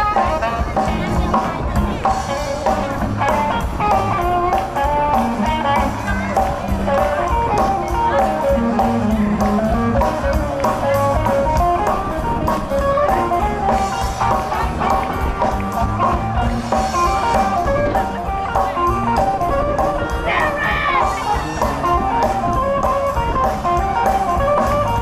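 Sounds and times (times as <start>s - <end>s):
bass: 0.0s - 25.0s
electric guitar: 0.0s - 25.0s
steady drum beat: 0.0s - 25.0s.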